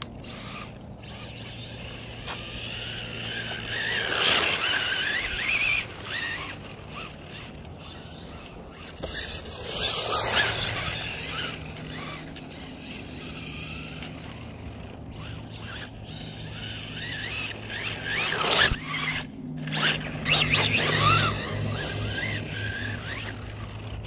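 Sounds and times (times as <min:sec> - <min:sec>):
electric toy car motor whining: 0:00.0 - 0:24.0
steady low hum: 0:00.0 - 0:24.0.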